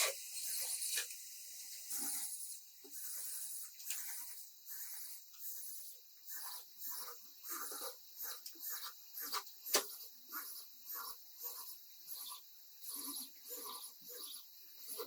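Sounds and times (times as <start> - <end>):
intermittent hissing: 0.0 - 15.0.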